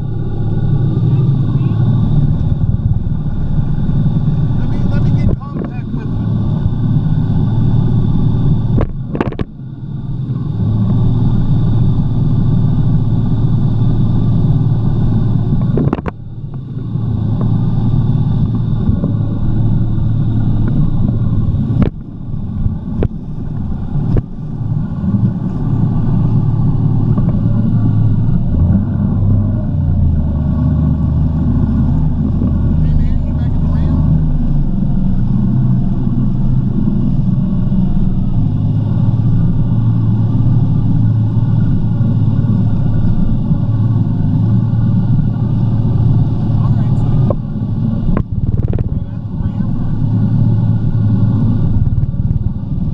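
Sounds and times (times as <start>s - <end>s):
jet ski engine running: 0.0s - 52.9s.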